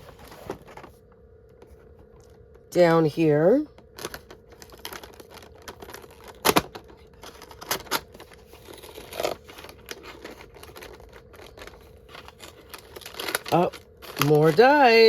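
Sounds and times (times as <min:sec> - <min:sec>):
cardboard packaging crinkling and clicking: 0:00.0 - 0:02.7, 0:03.7 - 0:15.0.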